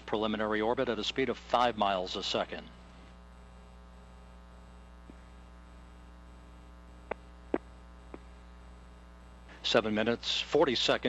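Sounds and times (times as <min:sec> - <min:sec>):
electrical hum: 0:00.0 - 0:11.0
faint static: 0:00.0 - 0:11.0.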